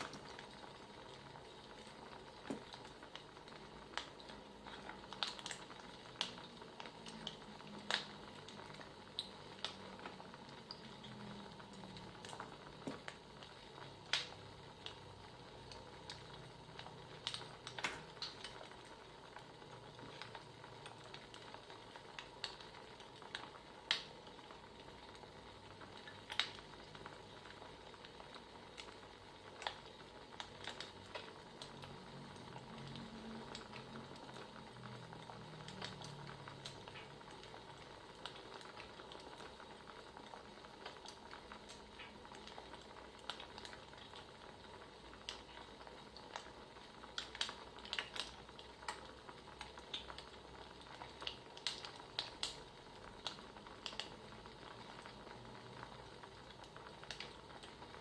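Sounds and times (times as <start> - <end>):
crackling wood fire: 0.0 - 58.0.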